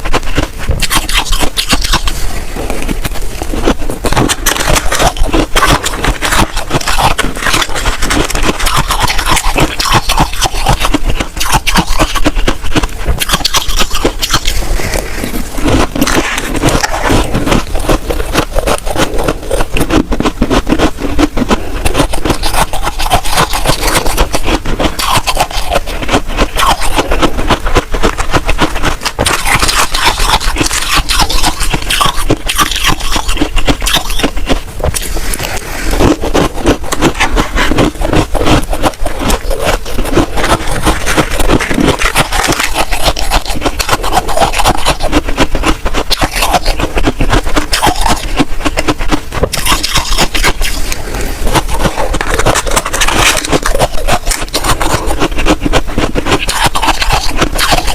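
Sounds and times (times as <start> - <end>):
frost being scraped: 0.0 - 57.9.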